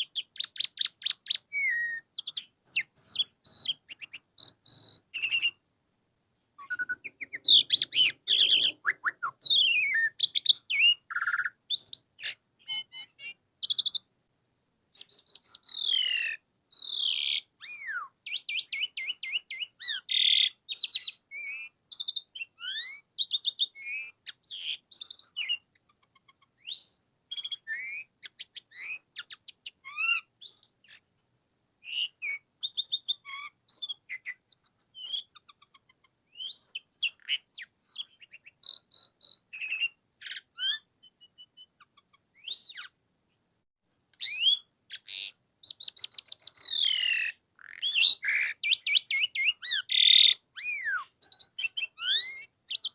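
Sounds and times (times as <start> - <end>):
starling singing: 0.0 - 5.6, 6.6 - 14.1, 15.0 - 43.0, 44.2 - 52.9.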